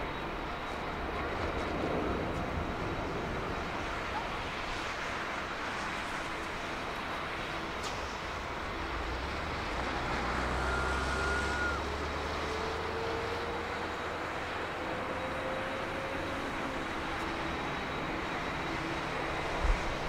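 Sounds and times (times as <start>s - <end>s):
jet engine rush and rumble: 0.0s - 20.0s.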